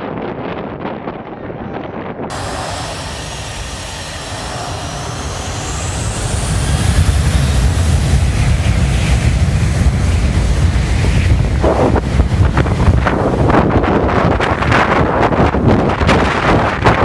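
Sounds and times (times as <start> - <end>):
rush of wind: 2.2 - 17.0
loud low jet rumble: 2.3 - 16.7
jet engine whine: 2.3 - 17.0.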